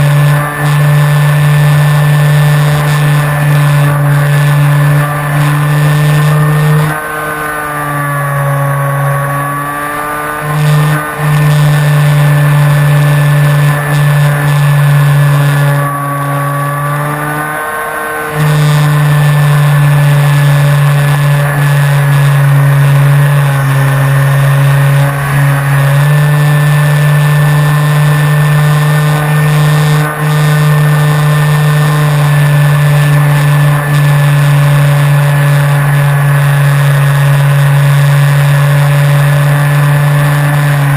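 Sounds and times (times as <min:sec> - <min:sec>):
model plane electric motor: 0:00.0 - 0:40.9.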